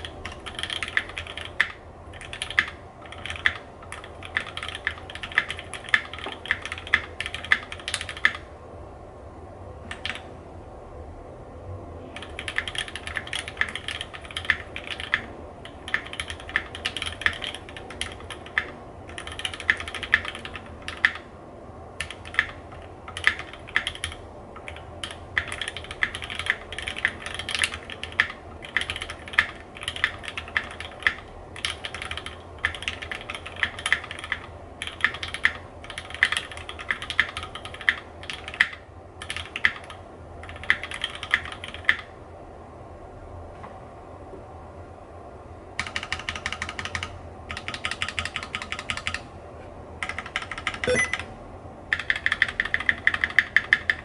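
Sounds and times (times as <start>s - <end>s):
typing on mechanical keyboard: 0.0s - 8.5s, 9.9s - 10.3s, 12.2s - 21.3s, 22.0s - 42.1s, 45.8s - 49.2s, 50.0s - 51.3s, 51.9s - 54.0s.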